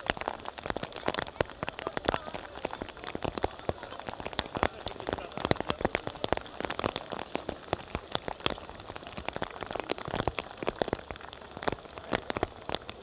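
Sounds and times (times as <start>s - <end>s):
light rain hiss: 0.0s - 13.0s
raindrops tapping near microphone: 0.0s - 13.0s.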